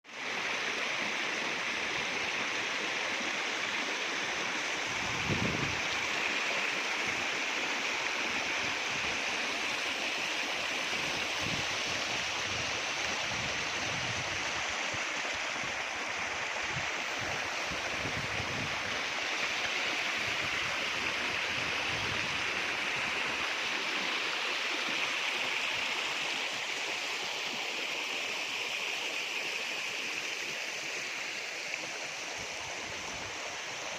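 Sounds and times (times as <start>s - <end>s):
stream flowing: 0.1s - 33.9s.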